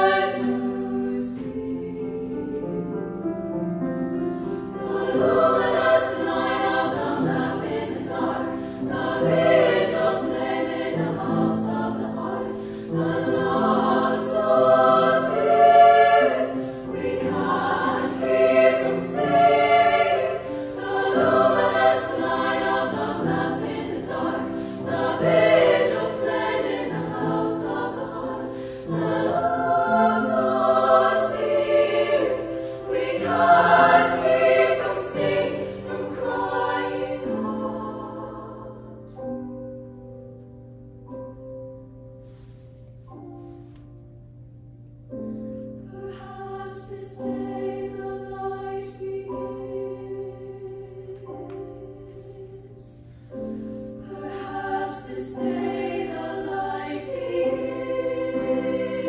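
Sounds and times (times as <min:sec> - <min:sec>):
women's choir singing: 0:00.0 - 0:39.4, 0:45.6 - 0:59.0.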